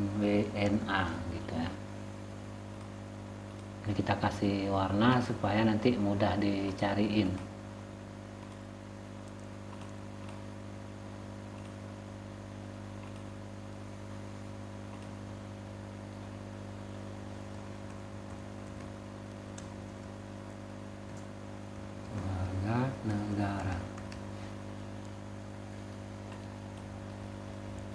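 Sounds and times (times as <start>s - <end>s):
low electrical hum with hiss: 0.0s - 27.9s.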